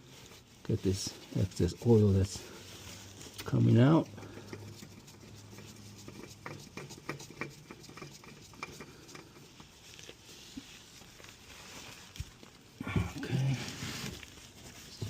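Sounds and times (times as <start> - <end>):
rag wiping with small clicks: 0.1 - 12.8.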